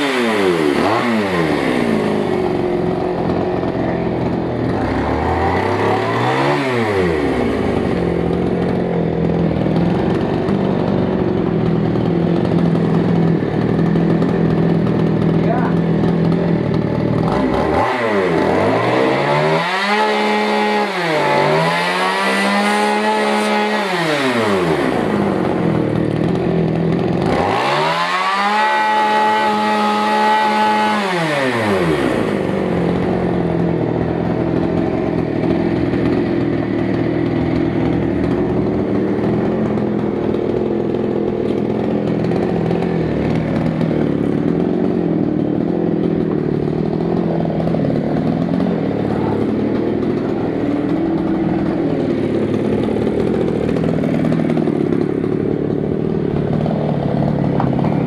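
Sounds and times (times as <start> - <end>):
petrol generator engine revving: 0.0 - 58.0.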